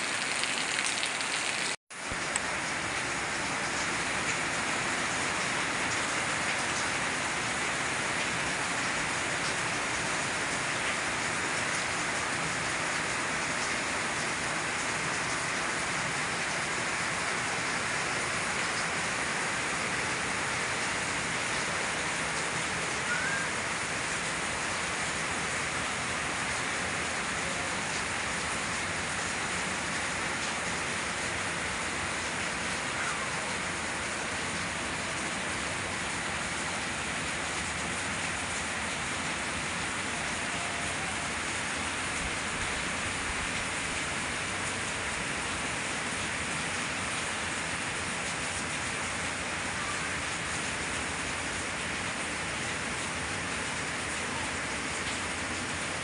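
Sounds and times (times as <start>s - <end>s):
steady rain on plants and pavement: 0.0s - 56.0s.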